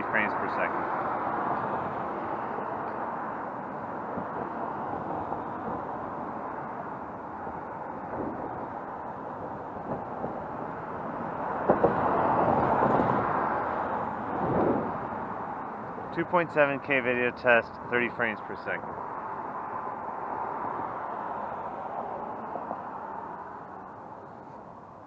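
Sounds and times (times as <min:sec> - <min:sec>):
cars passing on road: 0:00.0 - 0:25.0.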